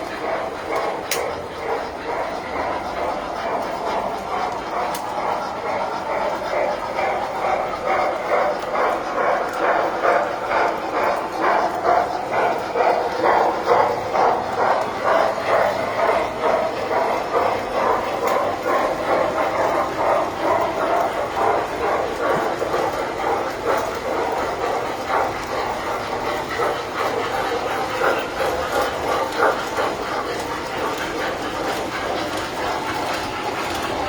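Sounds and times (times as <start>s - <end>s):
model train running rhythmically: 0.0s - 34.0s.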